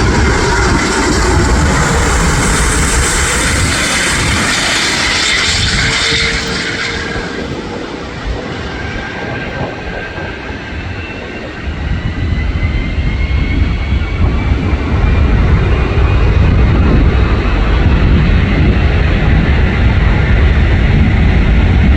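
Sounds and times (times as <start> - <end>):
deep rumble: 0.0 - 21.9
jet engines roaring: 0.0 - 21.9.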